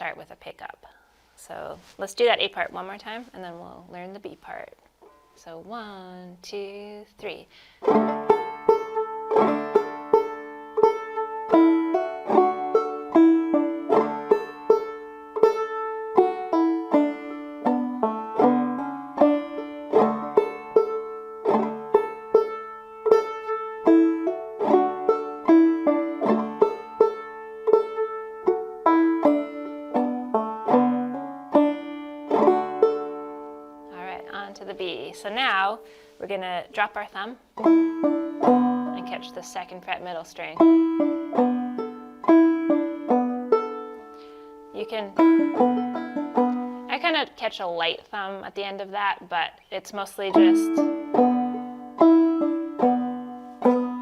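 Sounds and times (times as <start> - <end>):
banjo playing: 7.2 - 54.0.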